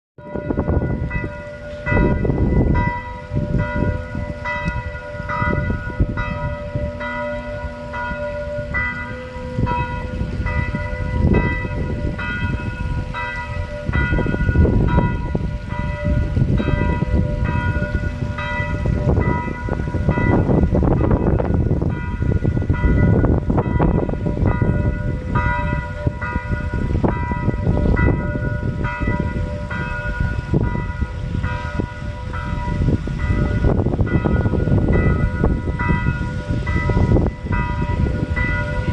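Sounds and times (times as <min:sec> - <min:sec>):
church bells ringing: 0:00.2 - 0:38.9.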